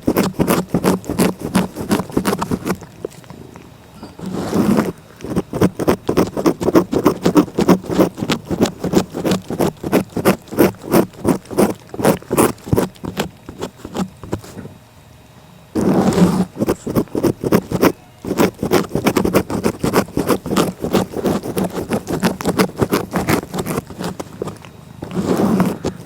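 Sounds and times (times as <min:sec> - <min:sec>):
cat licking: 0:00.0 - 0:14.6, 0:16.6 - 0:26.0.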